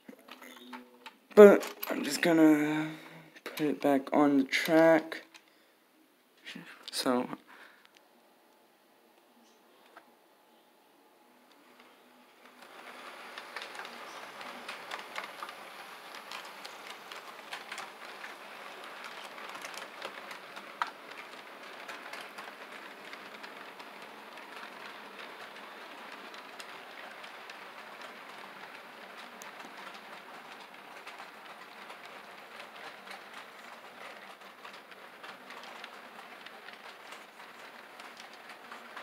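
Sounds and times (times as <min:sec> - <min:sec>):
model train wheels clattering: 0:00.0 - 0:05.5, 0:11.5 - 0:39.0.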